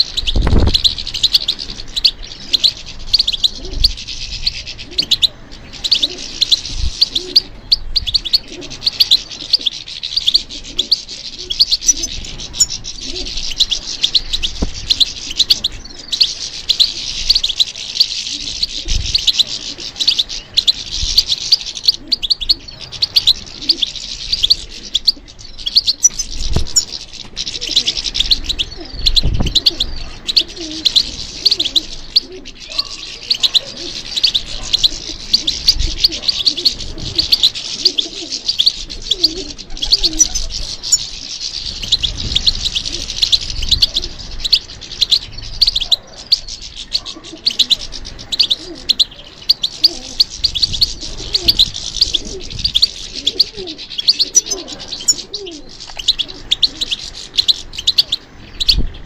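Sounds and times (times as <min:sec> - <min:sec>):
bird twittering and trilling: 0:00.0 - 0:59.0.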